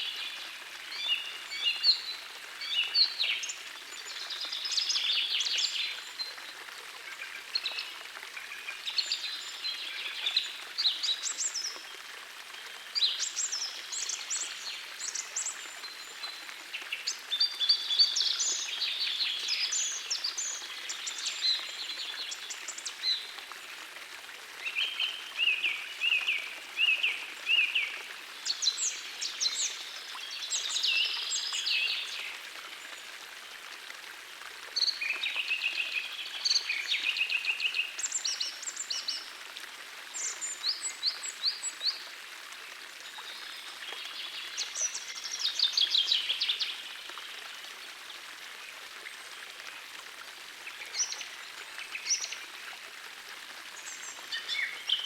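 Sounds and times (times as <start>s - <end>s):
forest stream rushing: 0.0s - 55.0s.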